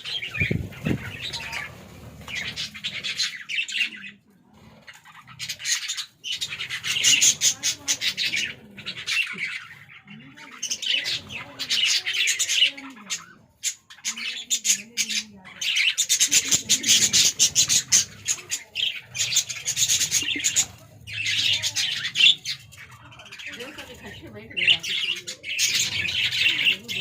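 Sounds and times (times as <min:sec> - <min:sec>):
budgerigars chattering and squawking: 0:00.0 - 0:27.0.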